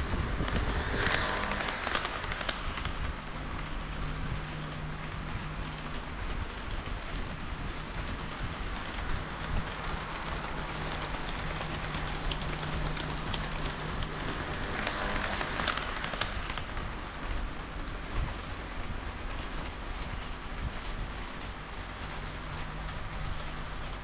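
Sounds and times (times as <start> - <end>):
clicks over rail joints: 0.0 - 24.0
model train wheels rolling: 0.0 - 24.0.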